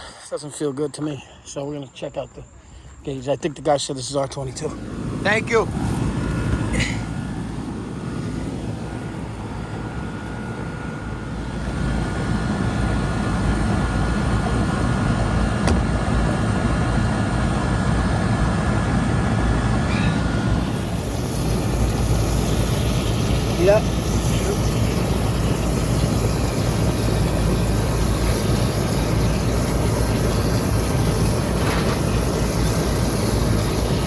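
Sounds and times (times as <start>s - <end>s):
air conditioner unit rumbling: 0.0s - 34.0s
faint steady whine: 0.0s - 34.0s.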